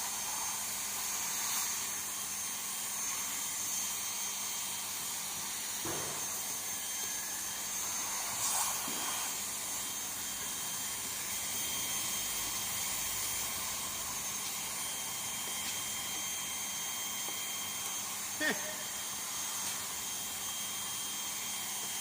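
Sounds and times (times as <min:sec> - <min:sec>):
heat gun blowing with high whine: 0:00.0 - 0:22.0.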